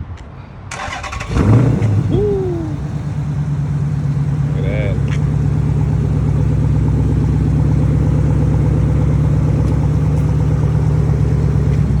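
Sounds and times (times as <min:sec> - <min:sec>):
car engine idling loudly: 0:01.9 - 0:12.0.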